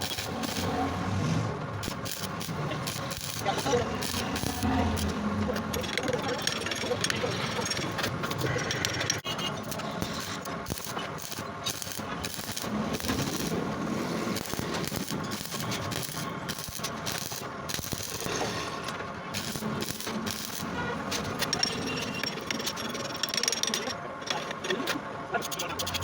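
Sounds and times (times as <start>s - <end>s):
metalworking machinery rattling: 0.0s - 26.0s.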